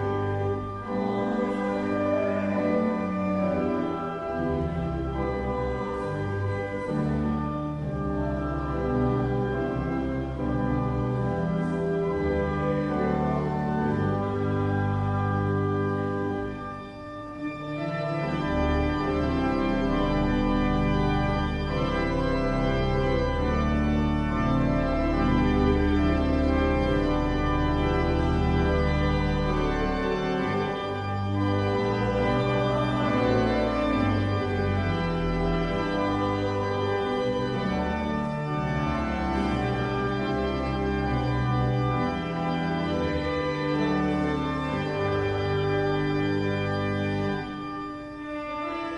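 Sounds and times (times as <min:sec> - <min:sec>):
church organ playing chords: 0:00.0 - 0:48.9.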